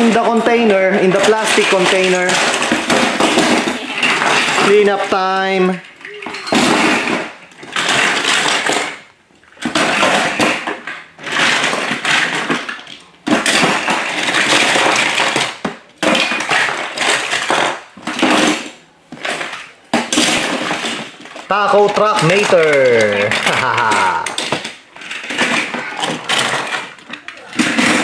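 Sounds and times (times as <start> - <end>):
toy cars clattering into plastic bin: 0.0 - 28.0.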